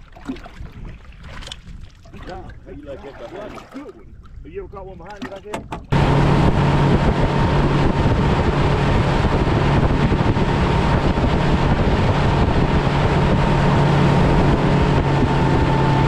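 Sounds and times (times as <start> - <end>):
outboard engine drone: 0.0 - 16.0
water rushing along hull: 0.0 - 16.0
wind buffeting microphone: 0.0 - 16.0.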